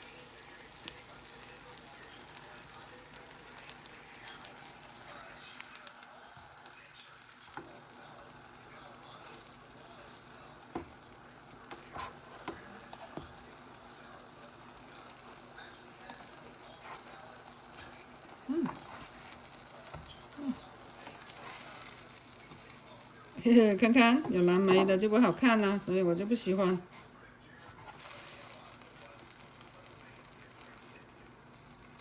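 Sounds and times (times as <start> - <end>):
pancakes sizzling in a pan: 0.0 - 32.0.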